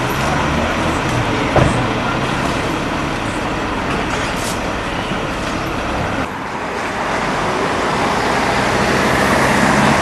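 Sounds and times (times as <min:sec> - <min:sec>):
bus engine running: 0:00.0 - 0:10.0
street traffic: 0:00.0 - 0:10.0.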